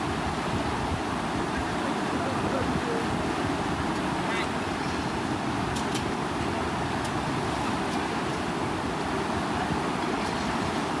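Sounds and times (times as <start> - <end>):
floodwater rushing through sluice: 0.0 - 11.0.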